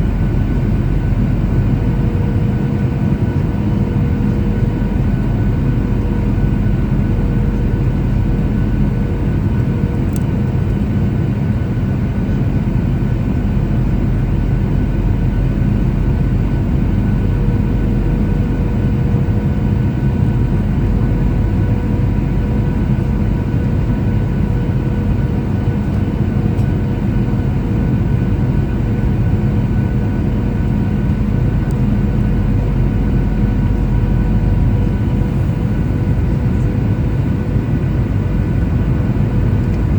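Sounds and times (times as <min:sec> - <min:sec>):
airplane cabin rumble: 0:00.0 - 0:39.9
jet engine whine: 0:00.0 - 0:39.9.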